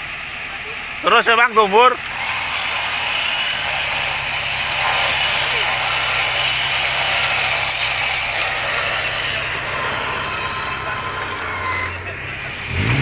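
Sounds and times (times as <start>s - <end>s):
engine idling: 0.0s - 13.0s
steady hiss: 0.0s - 13.0s.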